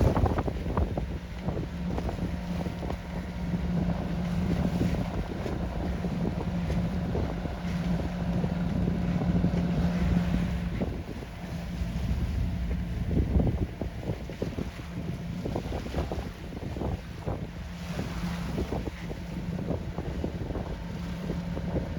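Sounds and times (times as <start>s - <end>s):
boat diesel engine humming: 0.0s - 21.9s
water noise: 0.0s - 21.9s
wind on microphone: 0.0s - 21.9s.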